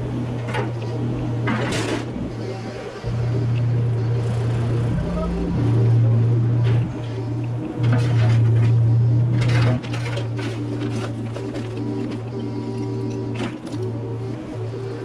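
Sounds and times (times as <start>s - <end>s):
mini excavator diesel engine: 0.0s - 15.0s.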